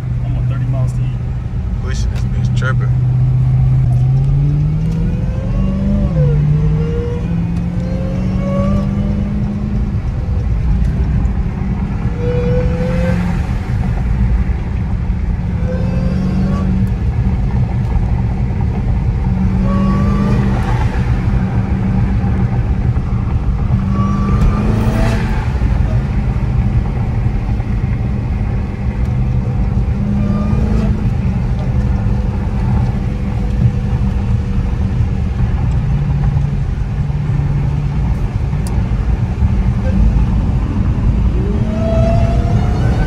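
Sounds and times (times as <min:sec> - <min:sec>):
car engine rumbling: 0:00.0 - 0:43.0
road noise: 0:00.0 - 0:43.0.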